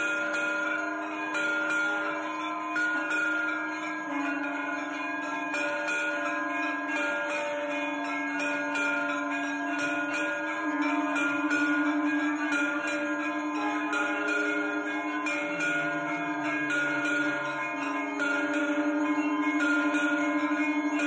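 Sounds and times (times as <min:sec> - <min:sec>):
brass hand bell clanging: 0:00.0 - 0:21.0
temple bells ringing: 0:00.0 - 0:21.0.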